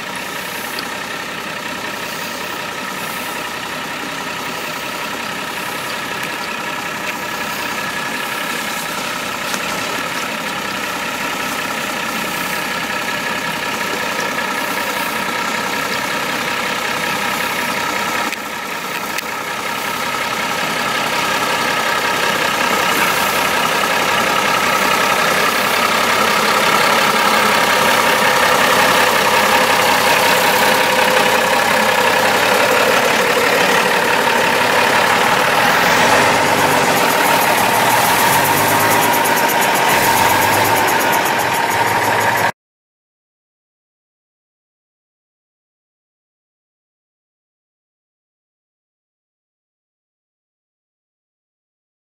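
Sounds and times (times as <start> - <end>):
steady whine: 0.0 - 42.5
truck engine under load: 0.0 - 42.6.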